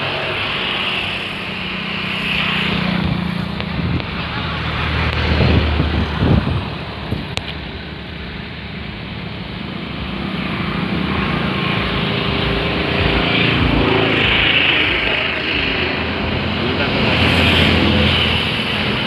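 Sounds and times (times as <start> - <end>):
wind rumbling on microphone: 2.3 - 19.0.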